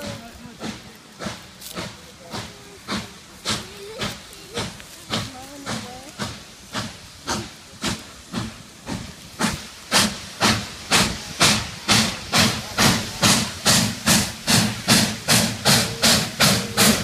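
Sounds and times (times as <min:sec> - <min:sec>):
steam locomotive exhaust chuffs: 0:00.0 - 0:17.0.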